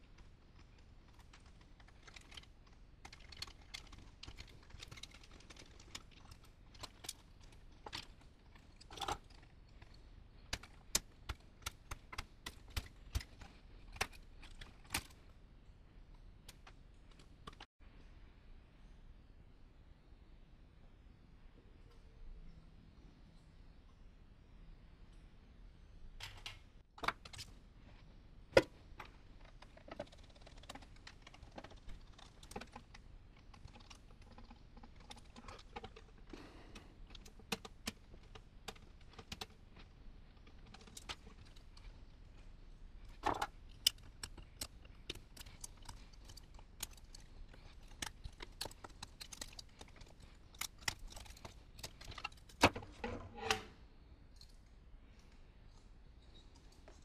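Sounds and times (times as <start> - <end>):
clicks and knocks of tools and parts: 0.0 - 15.4, 26.1 - 57.0.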